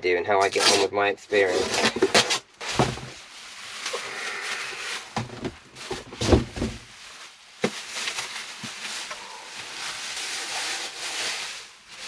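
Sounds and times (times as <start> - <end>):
cardboard and plastic rustling: 1.3 - 12.0.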